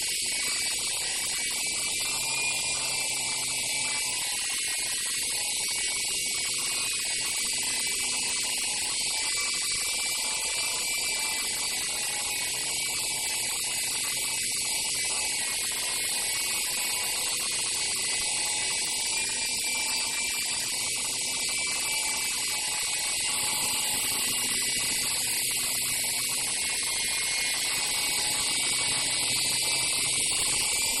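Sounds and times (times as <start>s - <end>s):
rc helicopter rotor whine: 0.0s - 31.0s.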